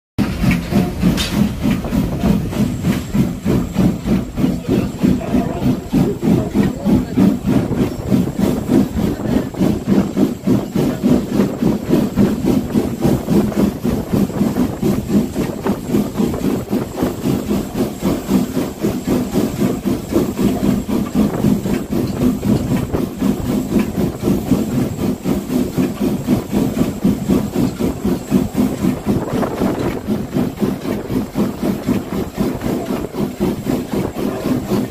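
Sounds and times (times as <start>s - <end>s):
steam locomotive exhaust beats: 0.2s - 34.9s
train rolling: 0.2s - 34.9s.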